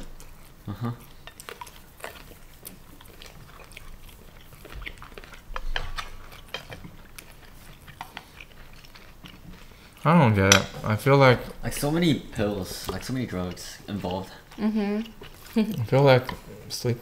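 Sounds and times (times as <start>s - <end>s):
chewing and mouth smacks: 0.0s - 17.0s.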